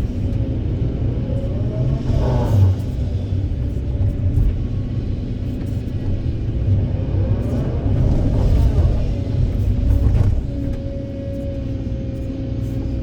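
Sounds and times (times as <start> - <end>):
excavator diesel engine rumbling: 0.0 - 13.0.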